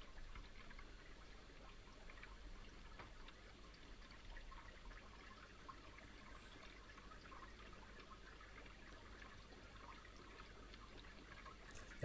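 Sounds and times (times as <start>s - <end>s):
aquarium pump bubbling: 0.0s - 12.0s
small water crackles: 0.0s - 12.0s.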